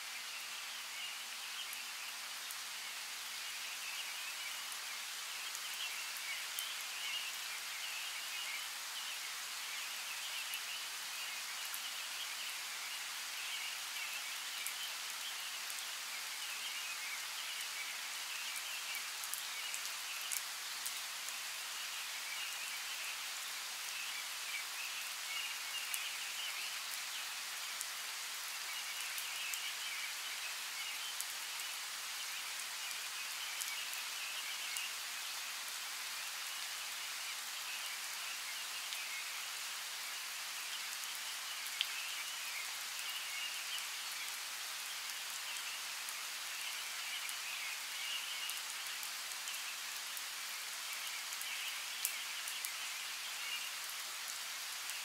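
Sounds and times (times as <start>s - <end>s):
rain falling on foliage: 0.0s - 55.0s.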